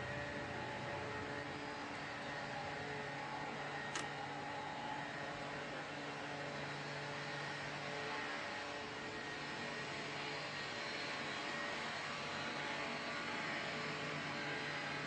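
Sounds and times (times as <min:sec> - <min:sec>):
steady whirring: 0:00.0 - 0:15.0.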